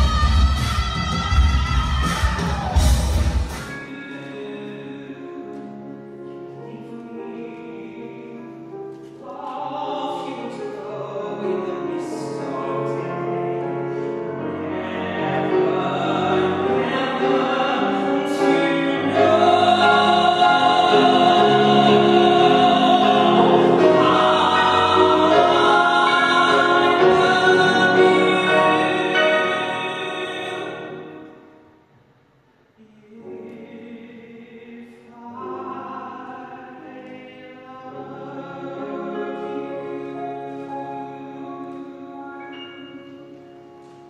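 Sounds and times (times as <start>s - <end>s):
grand piano: 0.0s - 44.0s.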